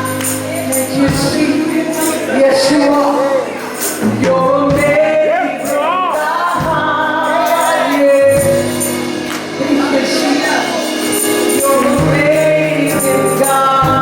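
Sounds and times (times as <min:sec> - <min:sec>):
instrumental accompaniment: 0:00.0 - 0:14.0
lead singer with vibrato: 0:00.0 - 0:14.0.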